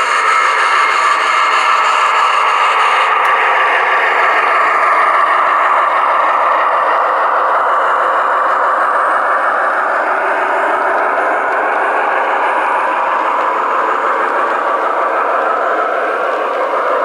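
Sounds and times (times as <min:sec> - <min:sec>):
model train running: 0:00.0 - 0:17.0.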